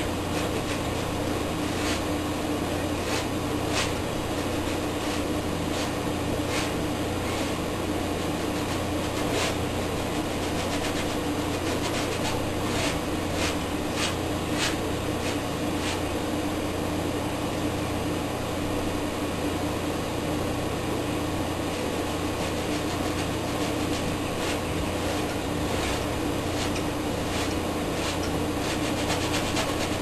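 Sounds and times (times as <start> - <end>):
brush scratching canvas: 0.0 - 16.2, 21.7 - 30.0
room noise hum and hiss: 0.0 - 30.0.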